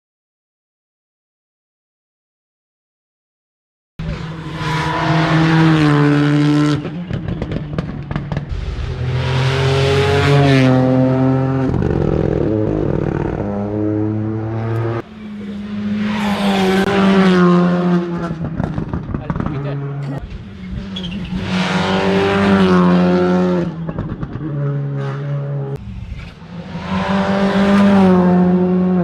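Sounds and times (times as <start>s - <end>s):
rally car engine revving: 4.0s - 29.0s.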